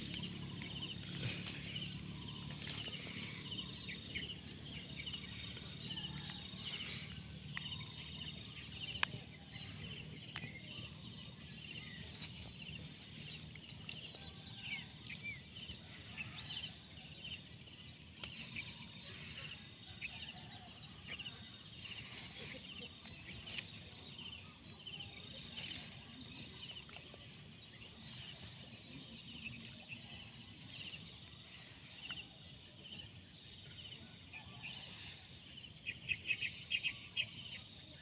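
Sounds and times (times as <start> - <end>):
high pulsing insect trill: 0.0 - 38.0.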